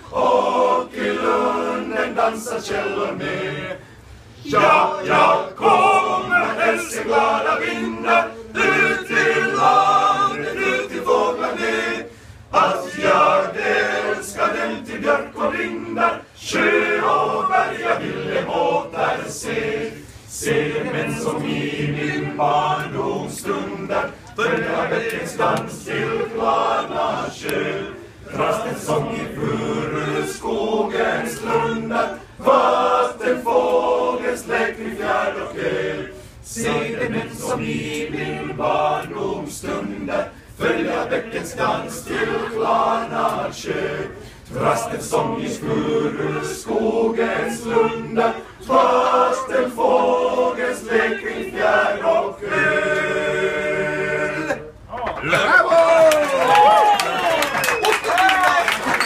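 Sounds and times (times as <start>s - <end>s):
male choir singing a cappella: 0.0s - 54.9s.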